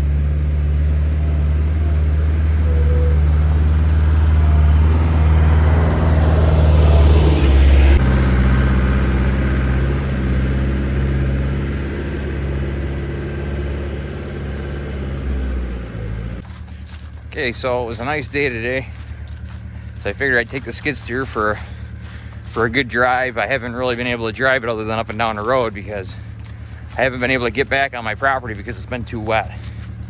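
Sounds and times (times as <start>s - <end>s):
skid steer engine running: 0.0s - 30.0s.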